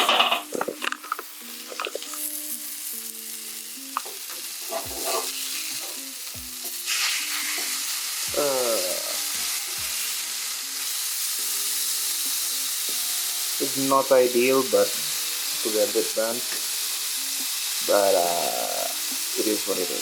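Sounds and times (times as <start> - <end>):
patties sizzling in oil: 0.0 - 20.0.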